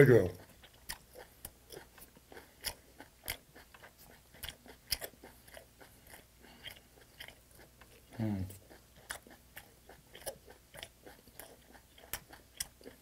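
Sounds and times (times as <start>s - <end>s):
person chewing wetly: 0.1s - 13.0s.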